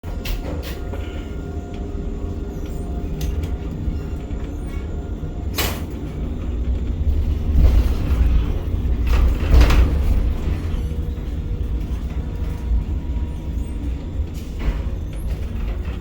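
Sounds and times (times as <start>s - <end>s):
crane machinery rumbling: 0.0s - 16.0s
noisy machinery surges: 0.0s - 16.0s.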